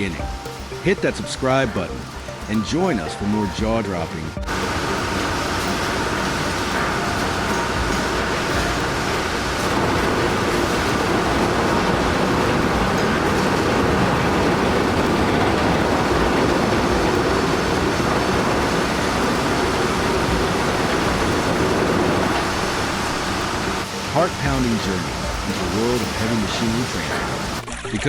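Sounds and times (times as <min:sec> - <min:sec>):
heavy vehicle engine rumbling: 0:00.0 - 0:27.6.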